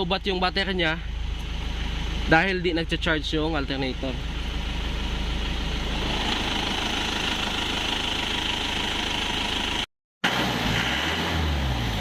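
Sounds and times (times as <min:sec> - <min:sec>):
truck engine idling: 0:00.0 - 0:09.9.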